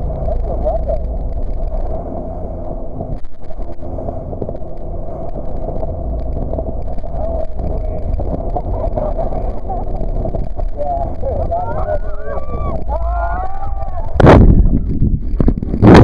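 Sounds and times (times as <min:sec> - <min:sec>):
jet boat engine drone: 0:00.0 - 0:16.0.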